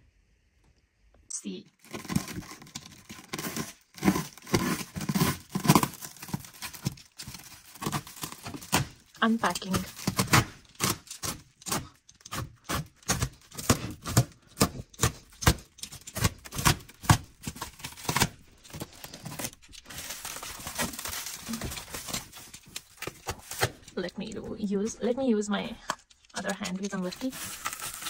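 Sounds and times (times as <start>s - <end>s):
plastic wrap ripping: 1.8s - 24.0s, 25.9s - 28.0s
plastic film crinkling: 1.8s - 28.0s.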